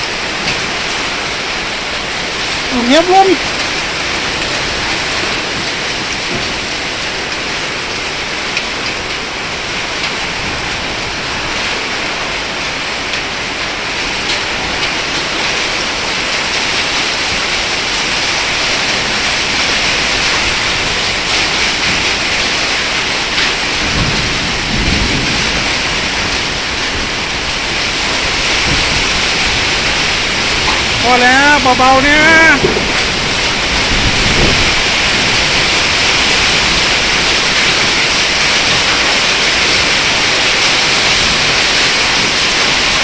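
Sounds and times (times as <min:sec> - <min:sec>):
hailstones ticking: 0:00.0 - 0:43.0
heavy rain: 0:00.0 - 0:43.0.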